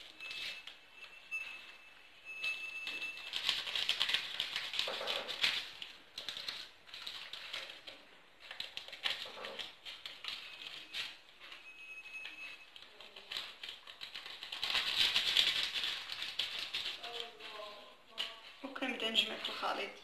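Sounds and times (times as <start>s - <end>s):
flour clicking and rustling in bowl: 0.0s - 20.0s.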